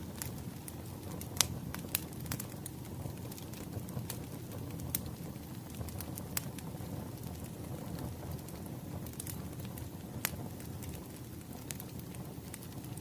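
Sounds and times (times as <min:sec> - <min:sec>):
burning logs rumbling: 0:00.0 - 0:13.0
fire popping: 0:00.0 - 0:13.0.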